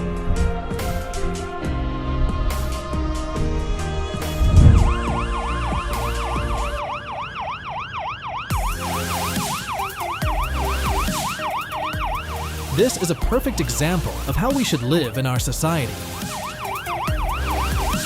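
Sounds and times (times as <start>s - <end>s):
background music: 0.0s - 18.0s
siren yelping: 0.4s - 18.0s.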